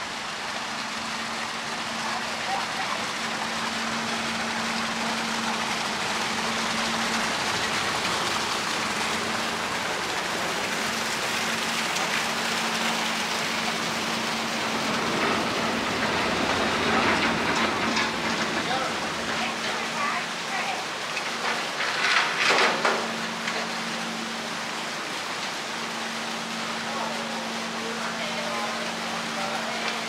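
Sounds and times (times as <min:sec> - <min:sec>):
low ship hum: 0:00.0 - 0:30.0
water splashing along ship hull: 0:00.0 - 0:30.0.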